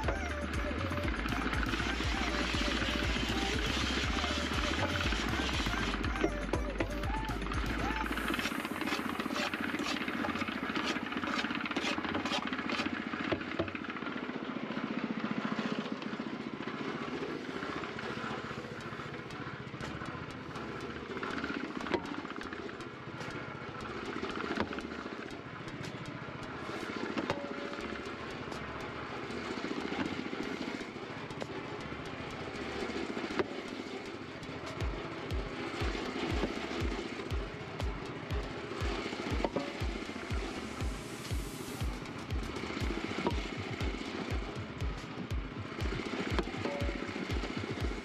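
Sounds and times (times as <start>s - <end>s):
regular clicking: 0.0s - 14.0s, 16.8s - 48.0s
cement mixer running: 0.0s - 48.0s.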